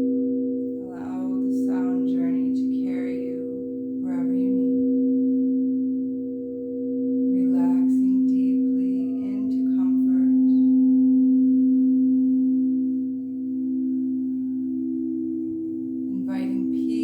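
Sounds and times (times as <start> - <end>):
singing bowl low tone: 0.0 - 17.0.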